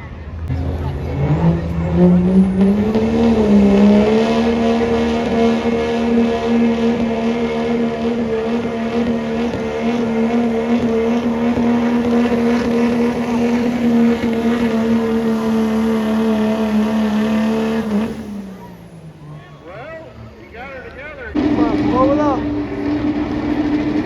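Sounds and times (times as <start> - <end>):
diesel truck engine at full throttle: 0.0 - 24.0.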